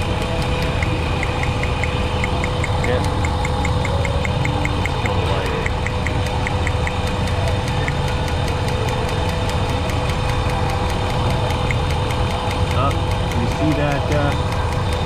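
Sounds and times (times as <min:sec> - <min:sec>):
engine idling: 0:00.0 - 0:15.0
spark arcing ticks: 0:00.0 - 0:15.0.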